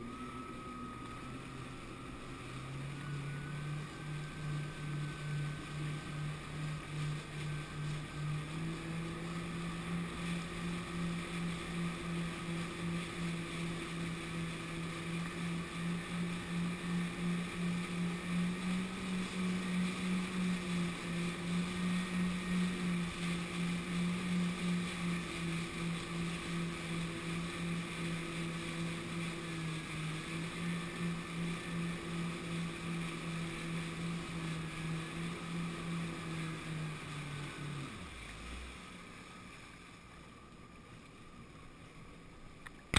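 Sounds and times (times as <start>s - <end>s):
motorboat engine running: 0.0s - 42.9s
water rushing past hull: 0.0s - 42.9s.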